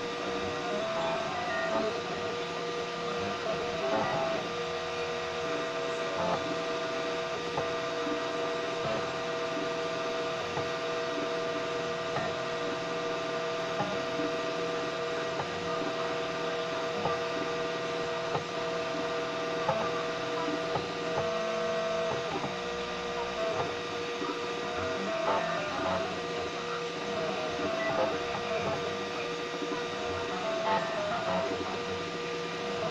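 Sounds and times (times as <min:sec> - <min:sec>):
stepper motors whining: 0:00.0 - 0:32.9.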